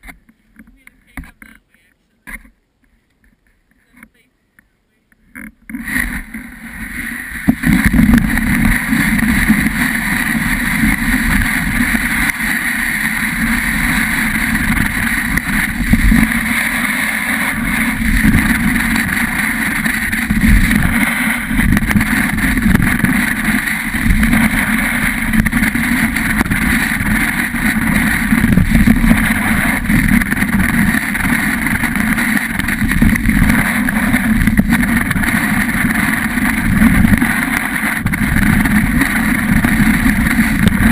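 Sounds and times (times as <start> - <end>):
wind buffeting a camera: 5.3 - 40.9
skis scraping over snow: 5.7 - 40.9.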